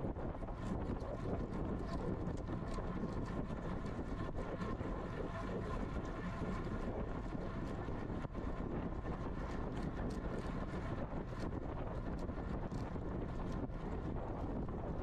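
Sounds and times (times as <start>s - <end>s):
constant rumble: 0.0s - 15.0s
wind noise on microphone: 0.0s - 15.0s.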